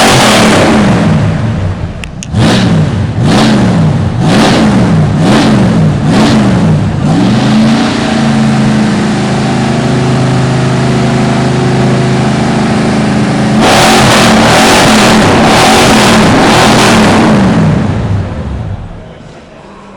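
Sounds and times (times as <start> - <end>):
pickup engine revving: 0.0 - 19.0.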